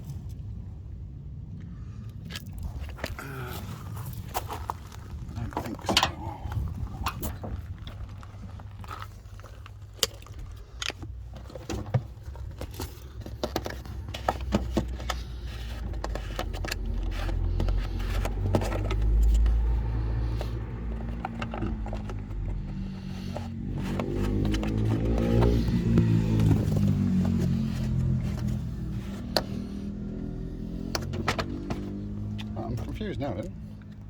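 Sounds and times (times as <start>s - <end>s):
low rumble: 0.4s - 11.1s, 16.9s - 33.9s
hands handling parts: 2.2s - 34.0s.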